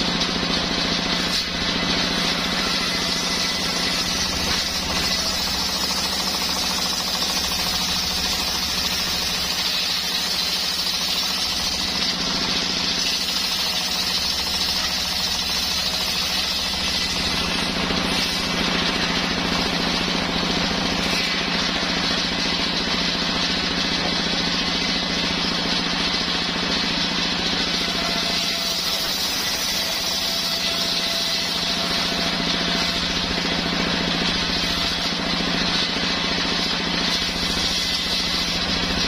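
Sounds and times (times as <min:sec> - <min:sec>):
circular saw running: 0:00.0 - 0:39.0.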